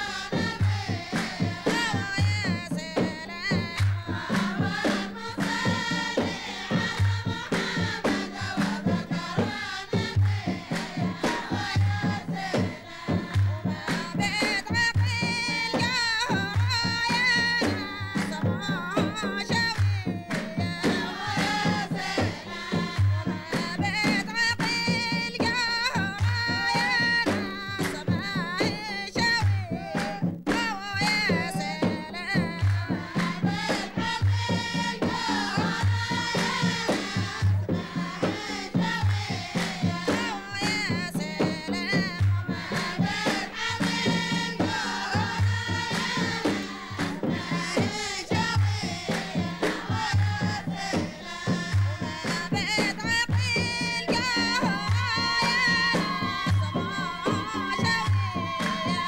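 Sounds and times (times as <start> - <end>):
hand drums beating: 0.0 - 59.0
handclapping: 0.0 - 59.0
women singing in chorus: 0.0 - 59.0.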